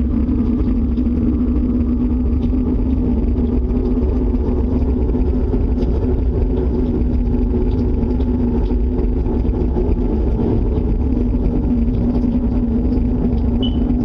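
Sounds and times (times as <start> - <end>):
low droning hum: 0.0 - 14.0.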